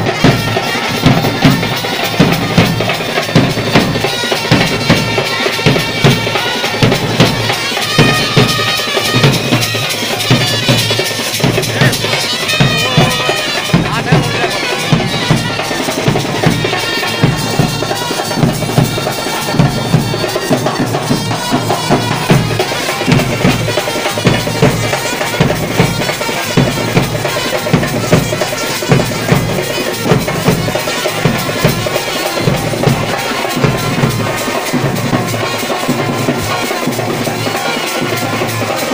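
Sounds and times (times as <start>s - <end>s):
bass drum and snare drums: 0.0s - 38.9s
reedy wind instrument melody: 0.0s - 38.9s.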